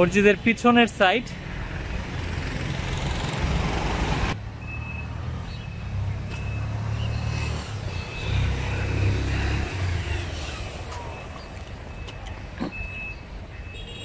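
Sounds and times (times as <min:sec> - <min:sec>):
outdoor background rumble: 0:01.3 - 0:13.6.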